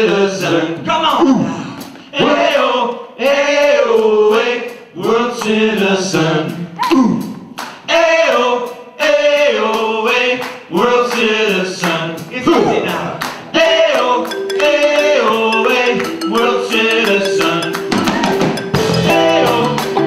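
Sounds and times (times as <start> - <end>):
voices singing in harmony: 0.0 - 0.9, 2.1 - 20.0.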